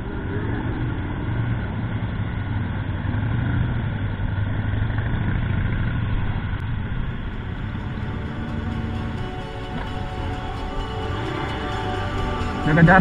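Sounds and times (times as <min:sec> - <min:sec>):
motorcycle engines pulling away: 0:00.0 - 0:13.0.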